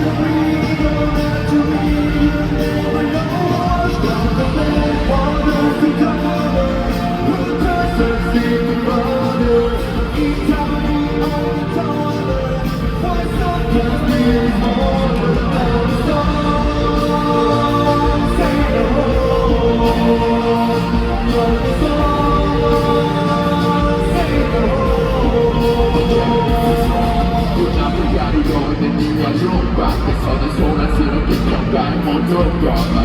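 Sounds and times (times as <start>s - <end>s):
pop song over sound system: 0.0s - 33.0s.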